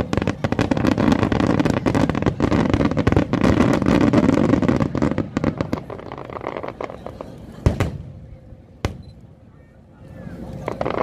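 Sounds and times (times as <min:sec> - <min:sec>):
fireworks bangs and crackles: 0:00.0 - 0:09.2, 0:10.4 - 0:11.0
continuous rumble: 0:00.0 - 0:11.0.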